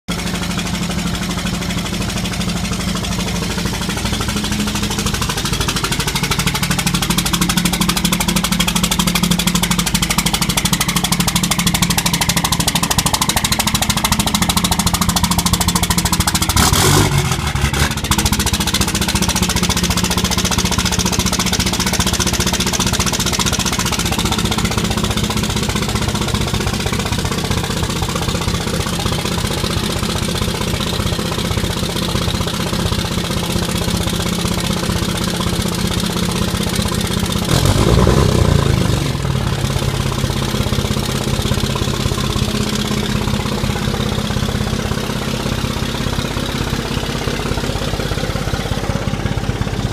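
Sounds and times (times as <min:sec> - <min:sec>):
diesel engine idling with clatter: 0:00.1 - 0:49.9.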